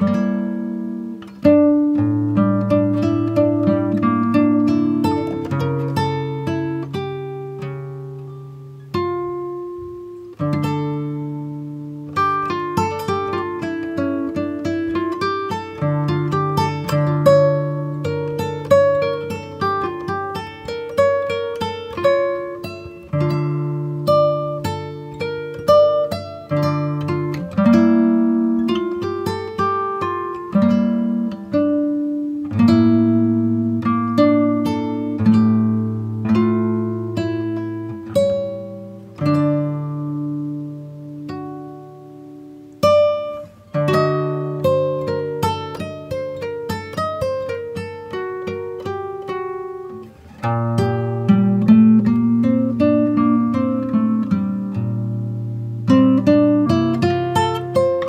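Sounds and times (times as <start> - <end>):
acoustic guitar chords: 0.0 - 58.0.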